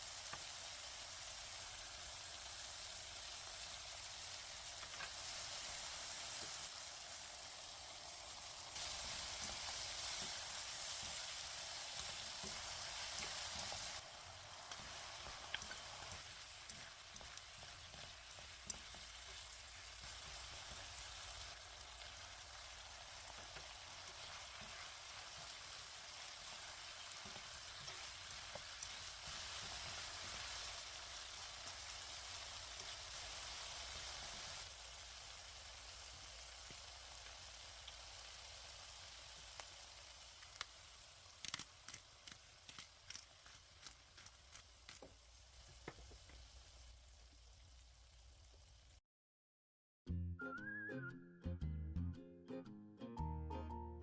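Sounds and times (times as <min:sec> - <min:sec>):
food sizzling in frying pan: 0:00.0 - 0:49.0.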